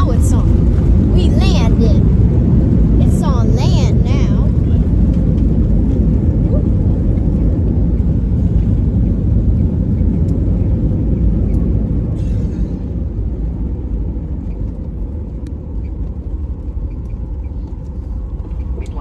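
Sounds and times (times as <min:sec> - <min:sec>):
airliner engines and wheels rumbling: 0:00.0 - 0:19.0.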